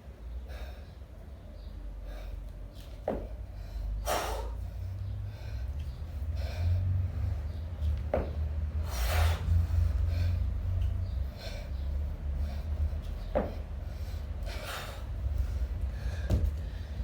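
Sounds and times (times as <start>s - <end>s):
steady low hum: 0.0s - 17.0s
heavy forceful breathing: 0.3s - 1.2s, 1.9s - 17.0s.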